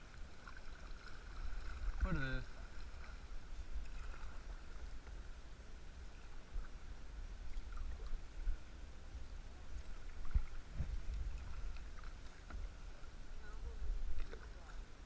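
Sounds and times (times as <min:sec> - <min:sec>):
paddle strokes in water: 0:00.0 - 0:15.0
wind rumble on microphone: 0:01.2 - 0:15.0.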